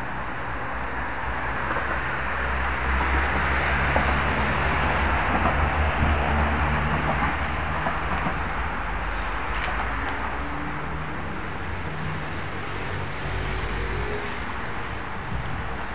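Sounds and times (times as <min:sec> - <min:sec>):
vehicle rumble: 0:00.0 - 0:15.9.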